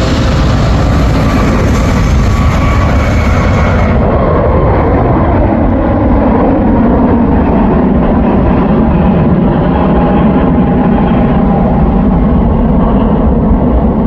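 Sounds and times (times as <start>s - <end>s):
jet engines taking off: 0.0s - 14.0s.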